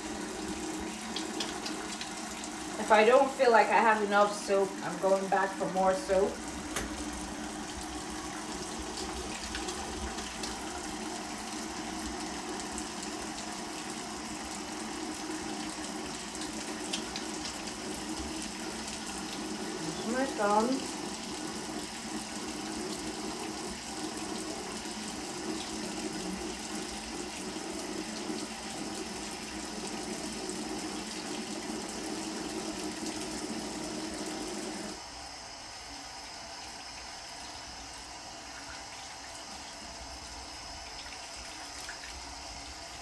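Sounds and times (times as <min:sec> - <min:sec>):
faucet water running on hands: 0:00.0 - 0:35.0, 0:35.7 - 0:43.0.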